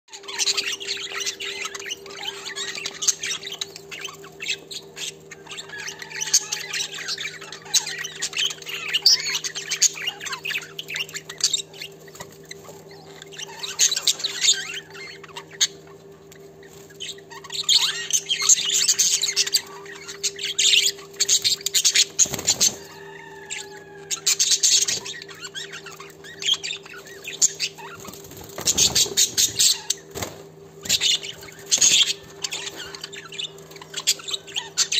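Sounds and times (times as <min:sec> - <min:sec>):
budgerigars chirping: 0:00.1 - 0:34.9
steady low hum: 0:00.1 - 0:34.9.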